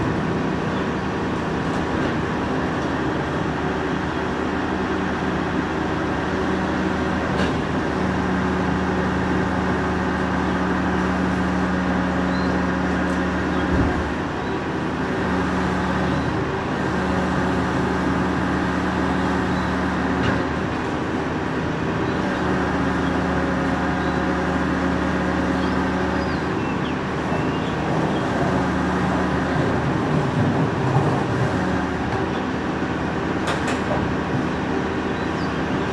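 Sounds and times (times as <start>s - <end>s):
garbage truck diesel engine running: 0.0s - 35.9s.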